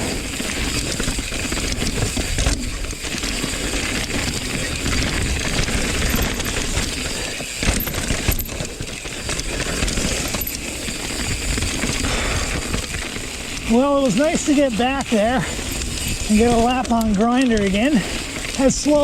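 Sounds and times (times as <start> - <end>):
bike rattling: 0.0 - 19.0
bike tyres rumbling on trail: 0.0 - 19.0.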